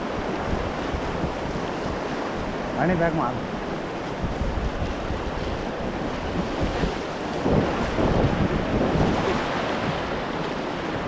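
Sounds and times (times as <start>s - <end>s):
rushing whitewater: 0.0s - 11.0s
wind buffeting microphone: 0.0s - 11.0s.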